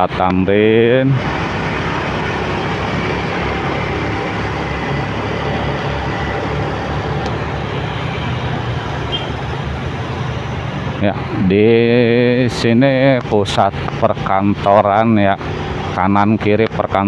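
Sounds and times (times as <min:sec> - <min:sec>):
motorcycle engine hum: 0:00.0 - 0:17.0
road noise of traffic: 0:00.0 - 0:17.0.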